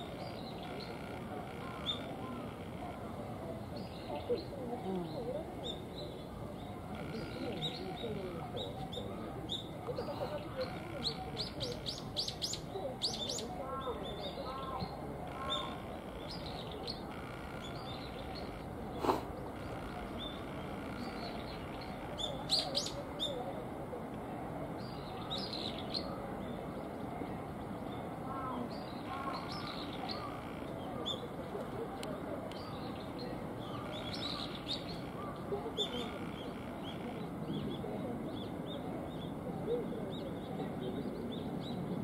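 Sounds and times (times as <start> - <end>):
small birds chirping: 0.0 - 23.8, 24.7 - 42.0
steady background noise: 0.0 - 42.0.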